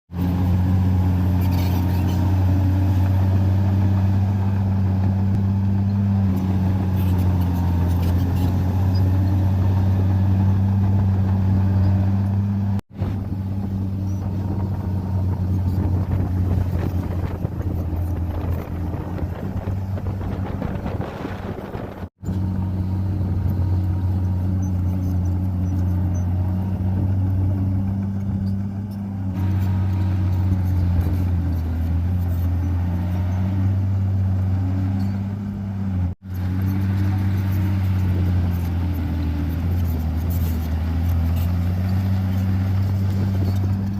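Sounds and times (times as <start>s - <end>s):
bulldozer diesel engine running: 0.1s - 43.9s.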